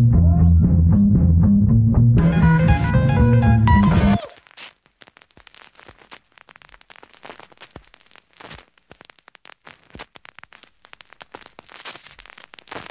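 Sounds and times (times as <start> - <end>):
crackling static: 2.2 - 12.9.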